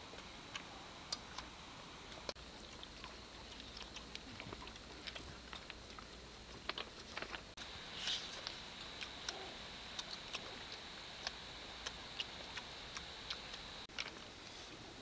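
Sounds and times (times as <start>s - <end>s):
crunchy chewing: 2.1s - 15.0s.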